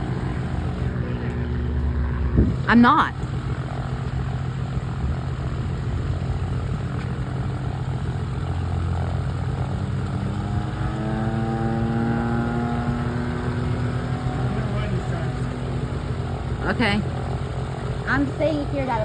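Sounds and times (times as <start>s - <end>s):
propeller airplane engine drone: 0.0s - 19.0s.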